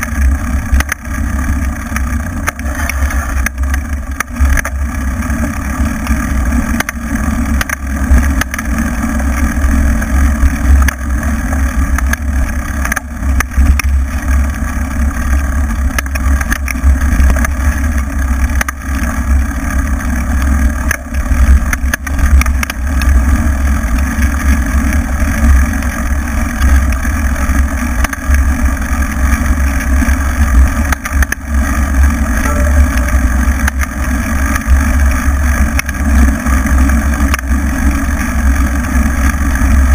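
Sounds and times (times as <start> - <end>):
motorcycle engine running: 0.0 - 39.9
wind noise on camera: 0.0 - 39.9.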